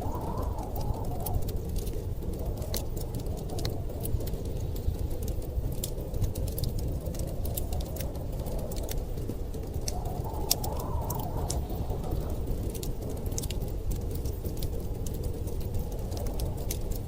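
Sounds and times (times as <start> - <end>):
blizzard wind rumbling: 0.0 - 17.0
fireplace crackling: 0.0 - 17.0
wind moaning: 0.0 - 17.0.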